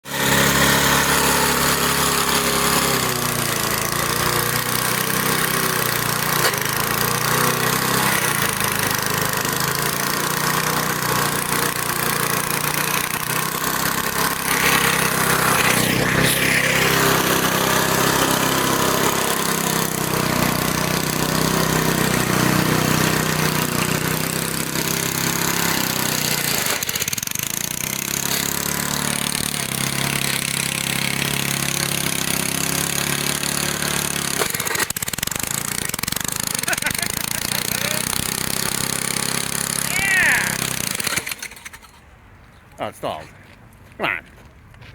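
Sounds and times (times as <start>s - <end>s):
lawn mower engine running: 0.0s - 42.4s.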